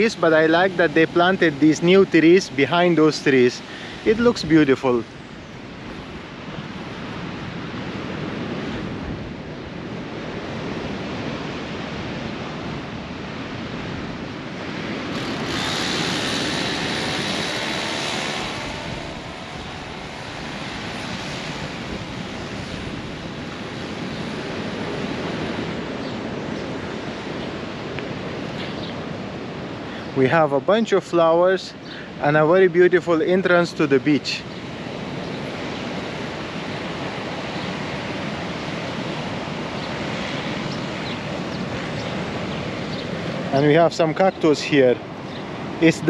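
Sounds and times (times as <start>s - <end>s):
wind rushing across microphone: 0.0s - 31.0s, 33.5s - 46.0s.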